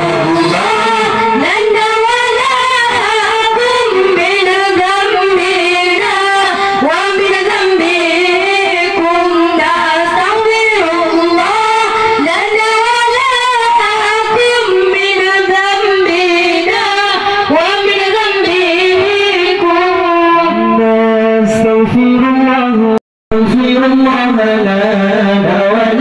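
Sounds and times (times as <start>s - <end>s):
devotional singing in high voices: 0.0s - 26.0s.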